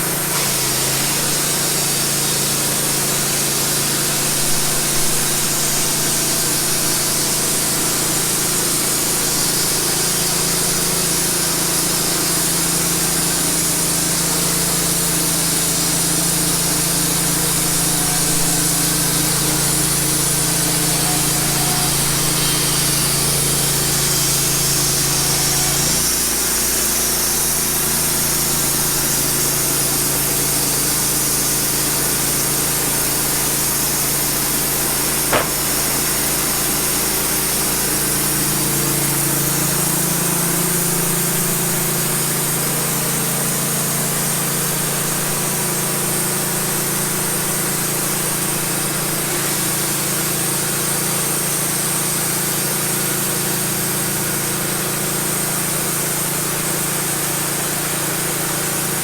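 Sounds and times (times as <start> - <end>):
band sawmill sawing log: 0.0 - 59.0.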